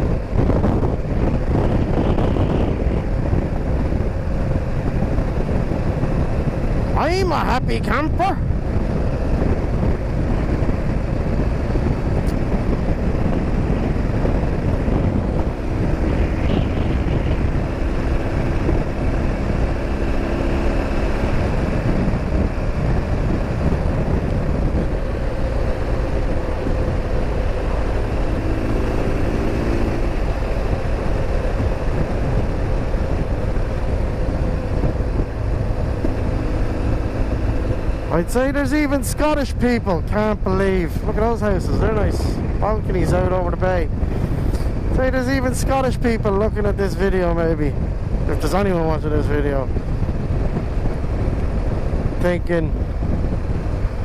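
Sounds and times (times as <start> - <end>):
motorcycle engine droning: 0.0 - 54.0
wind rush on microphone: 0.0 - 54.0.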